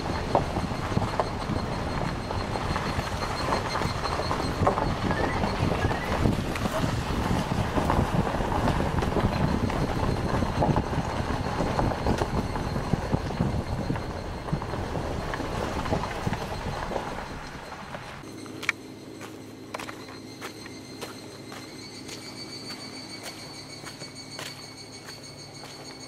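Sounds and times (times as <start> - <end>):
rumbling crunching noise: 0.0 - 24.3.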